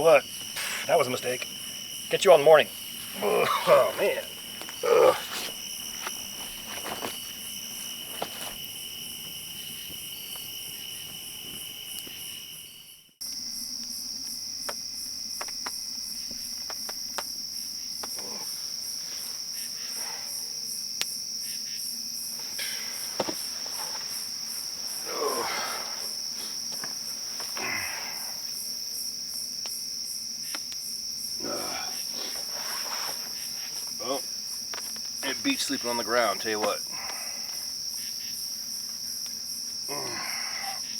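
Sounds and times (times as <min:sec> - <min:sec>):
crickets and insects trilling: 0:00.0 - 0:40.9.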